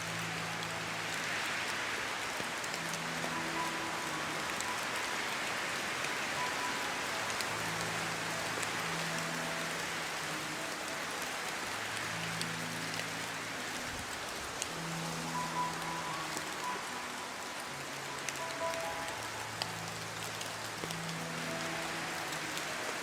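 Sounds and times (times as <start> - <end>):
heavy rain falling: 0.0 - 23.0
soft sustained music notes: 0.0 - 23.0.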